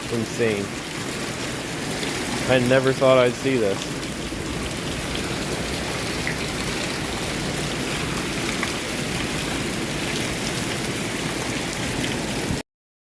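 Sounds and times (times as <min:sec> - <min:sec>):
heavy rain falling: 0:00.0 - 0:12.6.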